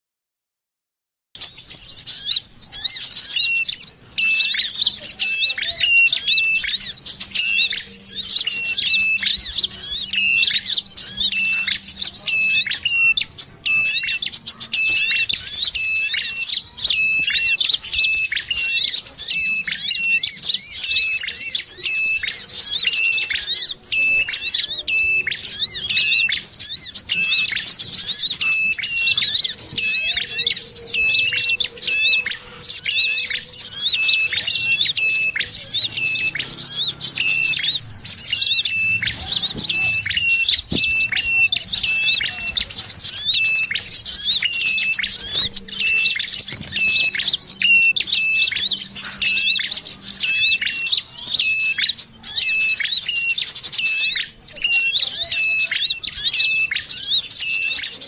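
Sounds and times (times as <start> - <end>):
high bird chattering: 1.4 - 58.0.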